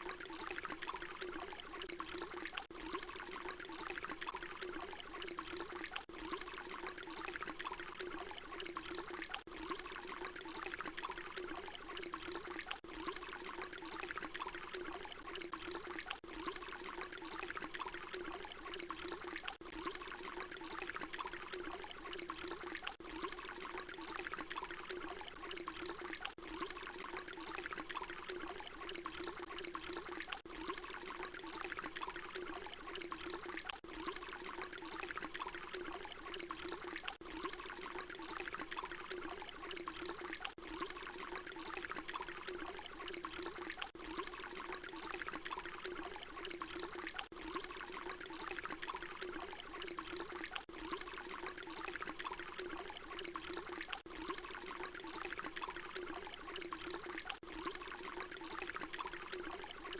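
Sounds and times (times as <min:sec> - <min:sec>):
water pouring: 0:00.0 - 0:59.9.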